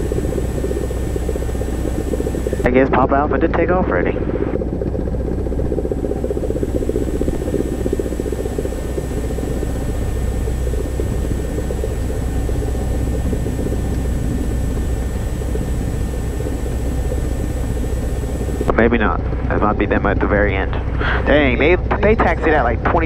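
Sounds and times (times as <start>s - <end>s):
propeller airplane engine running: 0.0s - 23.0s.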